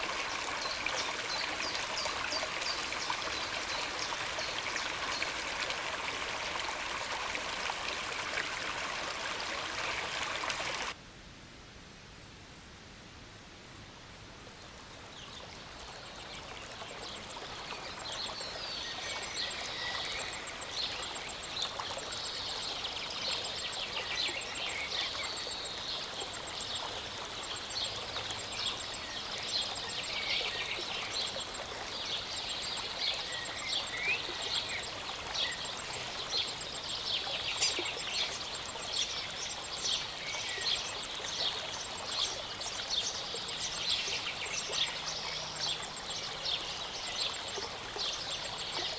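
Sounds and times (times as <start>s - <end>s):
mountain stream running: 0.0s - 11.0s, 14.5s - 48.9s.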